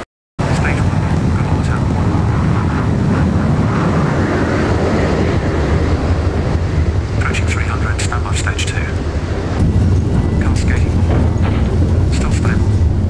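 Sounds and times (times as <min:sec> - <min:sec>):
jet engine rumbling: 0:00.0 - 0:13.0.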